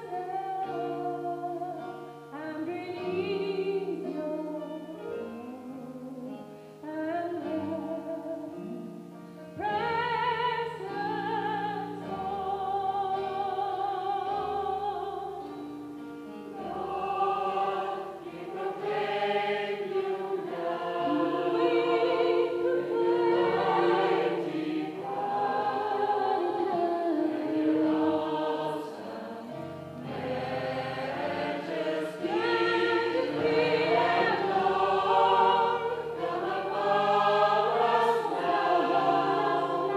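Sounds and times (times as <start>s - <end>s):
gospel choir singing: 0.0s - 6.0s, 9.6s - 39.9s.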